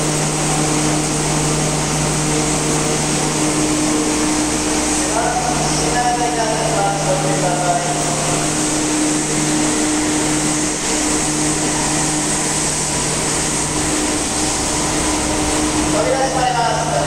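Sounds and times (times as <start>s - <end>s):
train equipment whirring hum: 0.0s - 17.0s.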